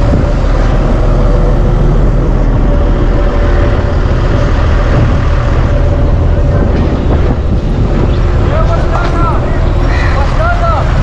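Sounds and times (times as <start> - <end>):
diesel engine rumbling: 0.0 - 11.0
steady engine whine: 0.0 - 11.0.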